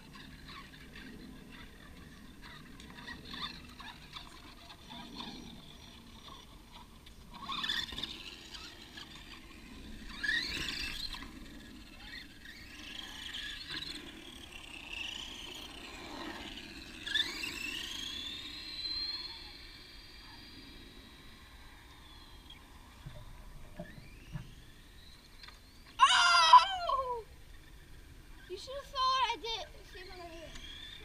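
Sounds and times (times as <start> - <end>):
electric toy car motor whining: 0.0 - 31.0.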